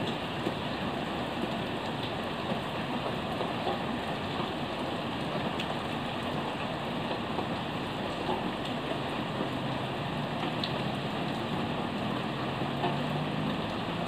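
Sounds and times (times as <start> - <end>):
rain drop ticks: 0.0 - 14.0.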